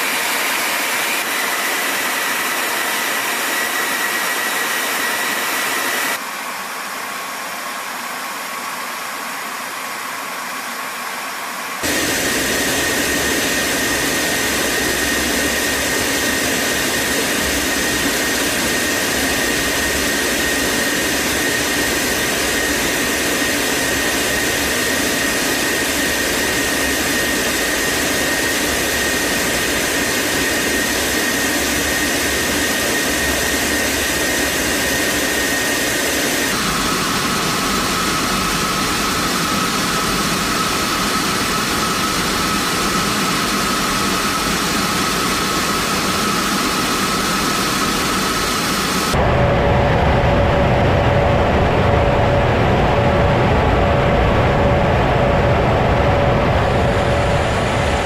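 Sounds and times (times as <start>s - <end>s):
high engine whine: 0.0s - 58.0s
jet engine and airflow noise: 0.0s - 58.0s.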